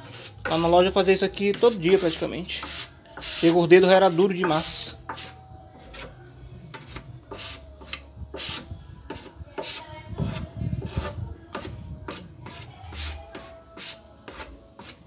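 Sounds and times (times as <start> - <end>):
spatula scraping putty onto wood: 1.4 - 15.0.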